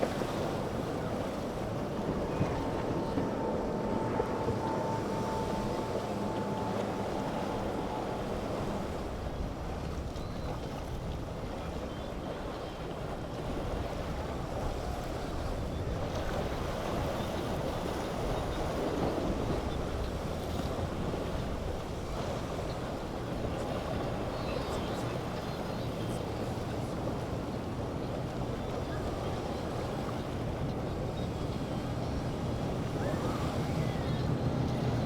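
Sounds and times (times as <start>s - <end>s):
motorboat engines: 0.0s - 35.0s
waves: 0.0s - 35.0s
wind buffeting microphone: 0.0s - 35.0s.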